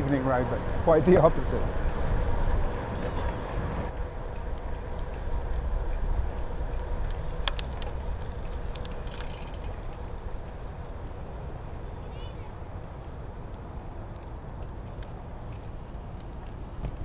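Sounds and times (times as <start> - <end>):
wind and tyre rumble: 0.0 - 17.0.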